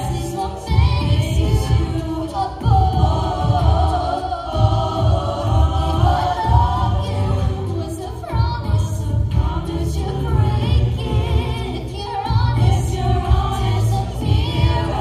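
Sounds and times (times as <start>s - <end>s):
vocal group singing in harmony: 0.0s - 15.0s.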